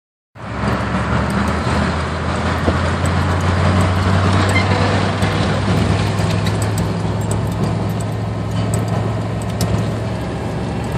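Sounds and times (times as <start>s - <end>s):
road noise: 0.4s - 10.9s
truck engine running: 0.4s - 10.9s.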